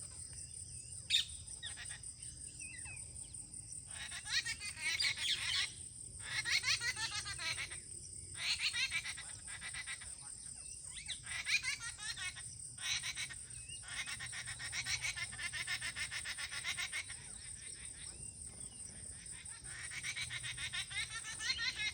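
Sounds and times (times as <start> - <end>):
birds chattering and chirping: 0.0 - 21.9.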